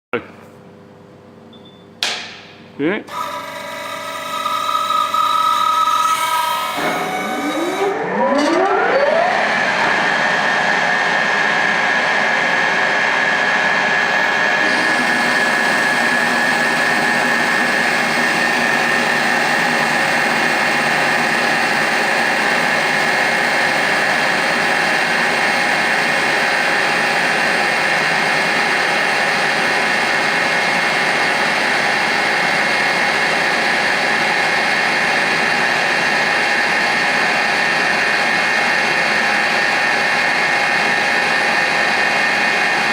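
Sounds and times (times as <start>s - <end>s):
milling machine whine: 3.1s - 42.9s.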